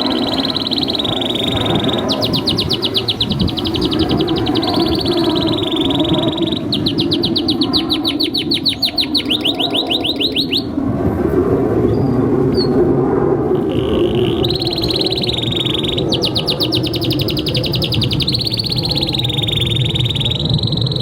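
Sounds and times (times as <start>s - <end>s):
canary singing: 0.0s - 10.7s, 13.6s - 21.0s.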